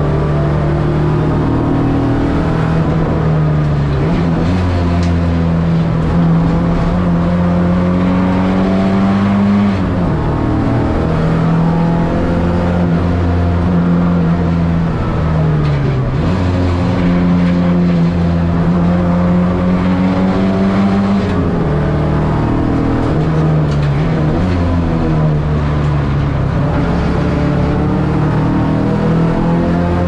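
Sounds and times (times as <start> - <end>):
car engine running hard: 0.0 - 30.0.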